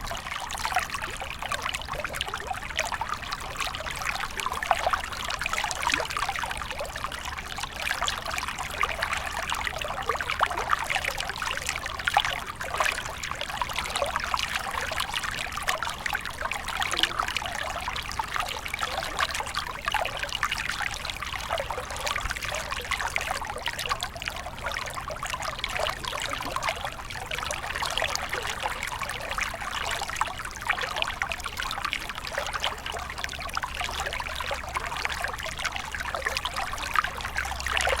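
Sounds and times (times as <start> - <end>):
stream trickling and splashing: 0.0 - 38.0.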